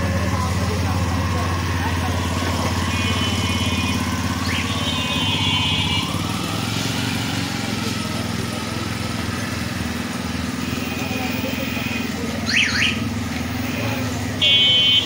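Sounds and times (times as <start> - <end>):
cycle rickshaws passing: 0.0 - 15.0
traffic engine hum: 0.0 - 15.0.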